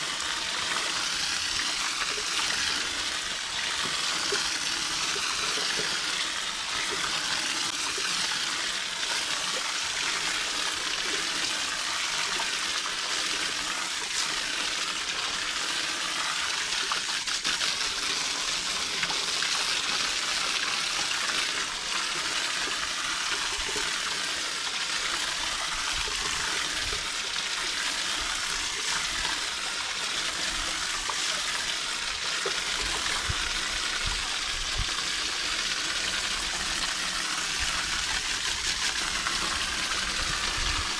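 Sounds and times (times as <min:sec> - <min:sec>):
water spraying from hose nozzle: 0:00.0 - 0:40.9.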